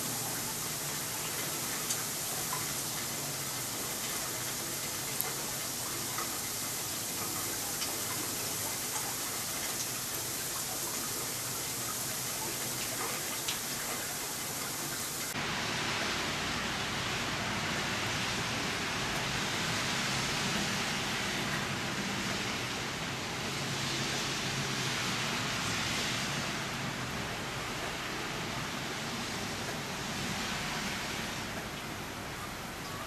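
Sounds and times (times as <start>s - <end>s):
rain and wet snow hissing: 0.0s - 33.0s.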